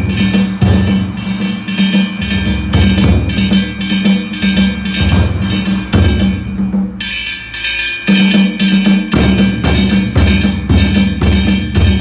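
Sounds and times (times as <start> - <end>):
high sustained ringing: 0.0 - 12.0
taiko drums beating: 0.0 - 12.0.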